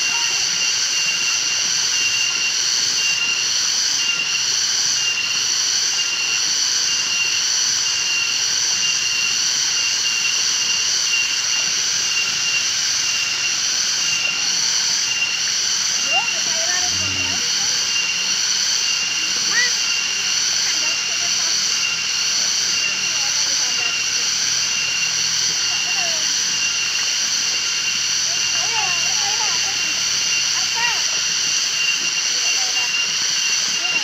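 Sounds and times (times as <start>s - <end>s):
high-pitched whine: 0.0s - 34.0s.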